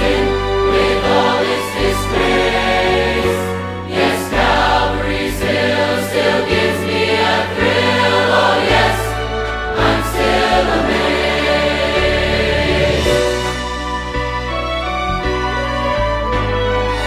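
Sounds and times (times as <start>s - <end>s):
choir singing: 0.0s - 14.3s
instrumental backing with bass: 0.0s - 17.0s.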